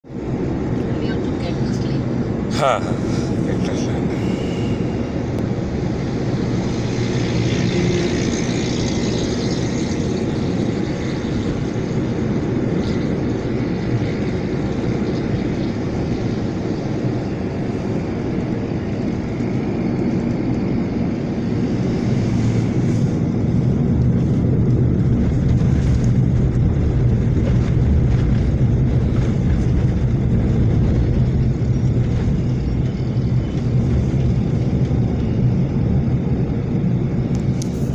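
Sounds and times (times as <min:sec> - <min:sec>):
truck engine and road rumble: 0:00.0 - 0:37.9.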